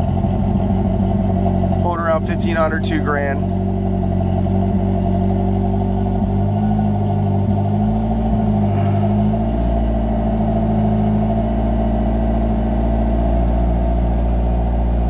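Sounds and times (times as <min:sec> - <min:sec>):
car engine fast idle: 0:00.0 - 0:15.0.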